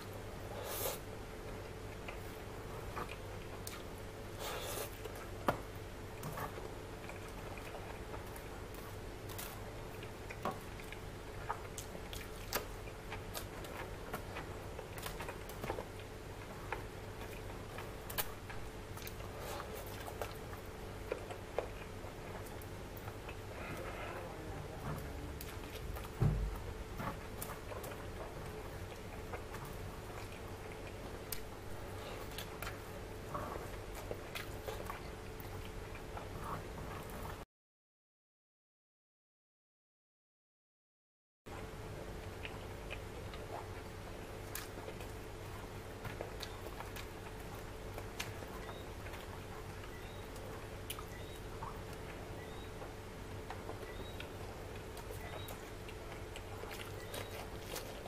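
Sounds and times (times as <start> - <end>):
chewing: 0.0 - 37.4, 41.6 - 58.0
faint steady hum: 0.0 - 37.4, 41.5 - 58.0.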